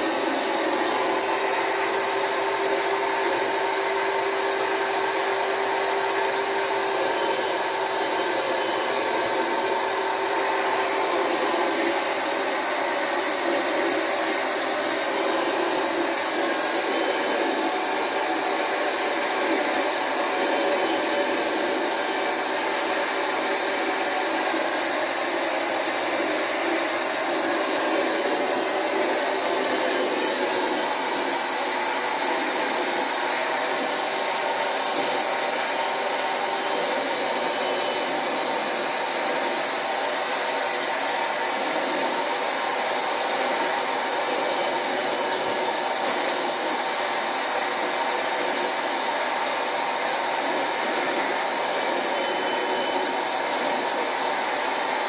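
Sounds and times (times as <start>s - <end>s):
carpet extractor motor whining: 0.0s - 55.0s.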